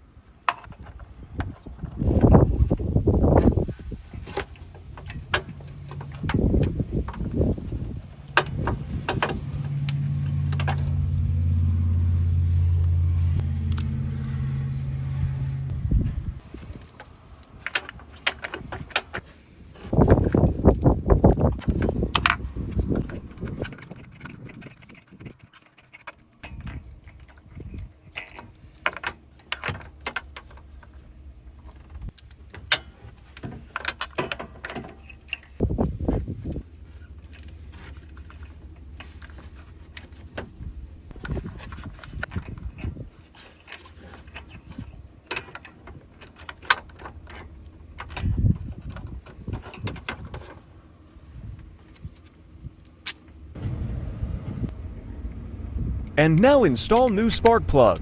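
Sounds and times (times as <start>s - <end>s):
low steady hum: 1.8s - 58.0s.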